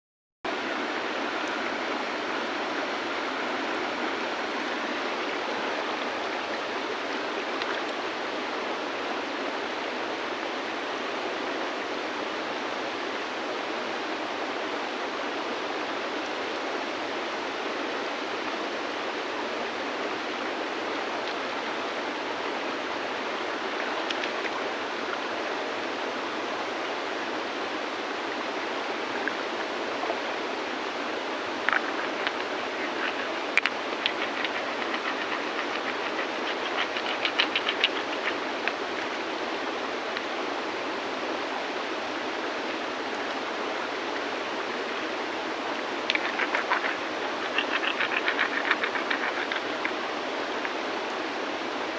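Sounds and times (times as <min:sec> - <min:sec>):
river water rushing over stones: 0:00.5 - 0:51.9.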